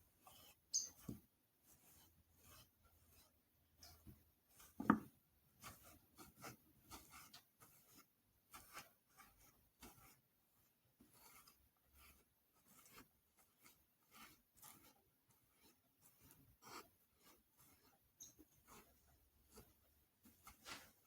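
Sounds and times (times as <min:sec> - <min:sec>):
soft rubbing and scraping: 0:00.0 - 0:21.0.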